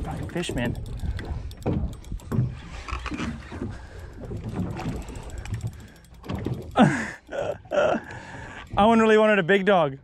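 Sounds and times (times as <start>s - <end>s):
fishing reel clicking rapidly: 0.0s - 3.2s, 3.8s - 9.2s
boat noise: 0.0s - 10.0s
wind: 0.0s - 10.0s.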